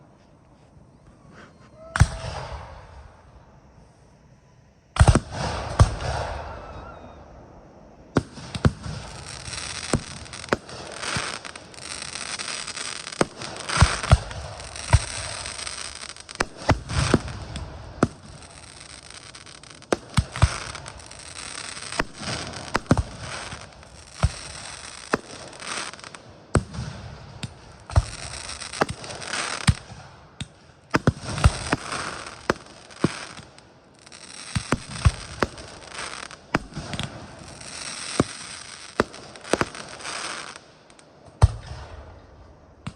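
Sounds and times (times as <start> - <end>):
crackling hiss: 0.0 - 42.9
fireworks bursting with bangs: 1.2 - 3.3, 5.0 - 7.4, 8.0 - 42.9.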